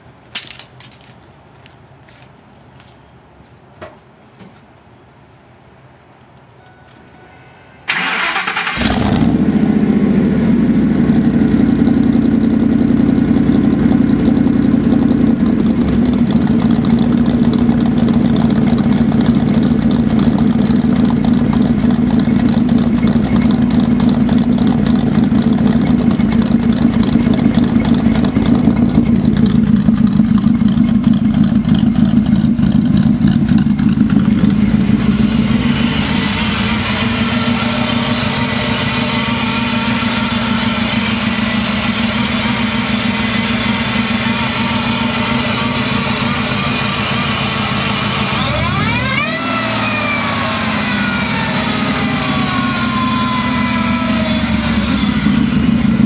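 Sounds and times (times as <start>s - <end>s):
engine idling: 7.9s - 56.0s.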